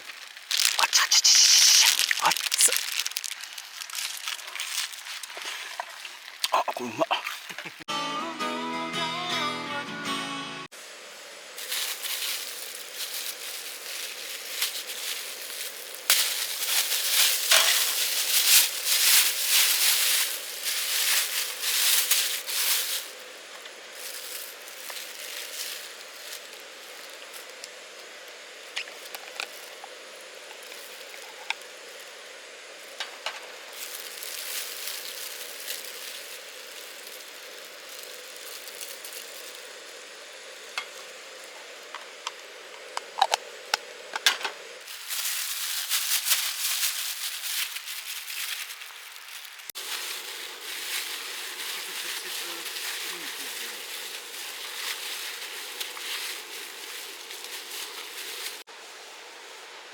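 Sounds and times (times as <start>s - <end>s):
food sizzling in hot fat: 0.0s - 7.9s, 10.7s - 58.8s.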